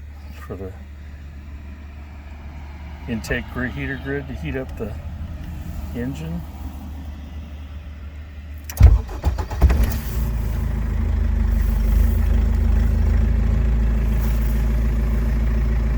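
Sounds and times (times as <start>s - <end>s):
diesel engine starting and idling: 0.0s - 15.9s.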